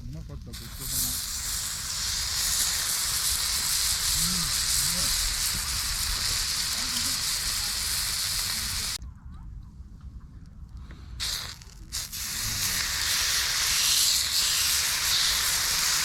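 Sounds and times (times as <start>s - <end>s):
food sizzling on a grill: 0.1s - 9.0s, 11.2s - 16.0s.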